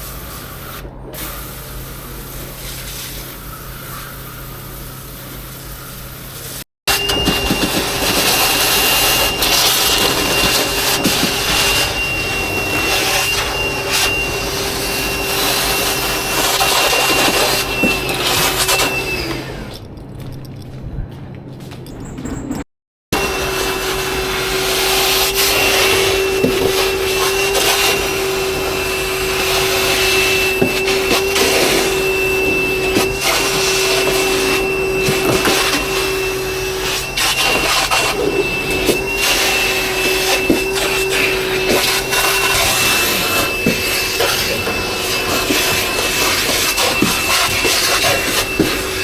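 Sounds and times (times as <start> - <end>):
electric motor whining: 0.0 - 20.0, 23.2 - 49.0.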